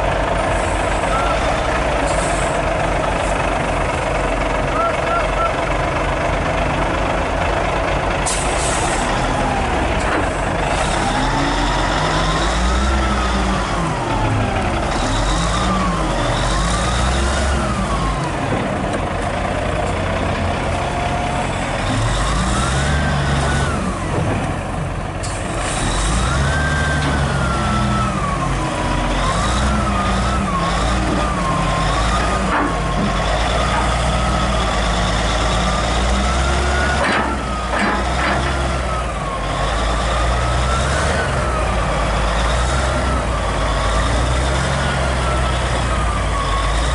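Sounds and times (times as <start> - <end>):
truck diesel engine revving: 0.0 - 46.9.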